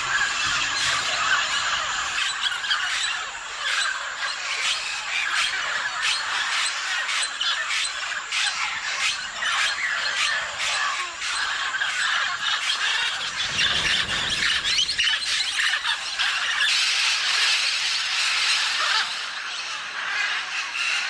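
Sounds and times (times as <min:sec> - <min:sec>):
parrots squawking: 0:00.0 - 0:21.0.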